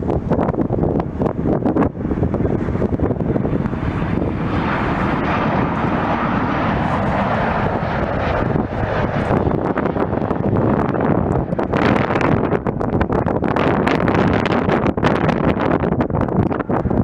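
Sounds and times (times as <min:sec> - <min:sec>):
jet engines passing close: 0:00.0 - 0:17.0.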